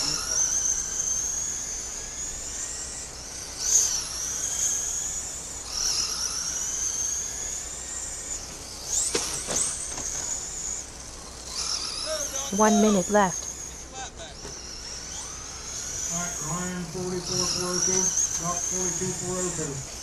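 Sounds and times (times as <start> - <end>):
rc car electric motors whining: 0.0 - 20.0.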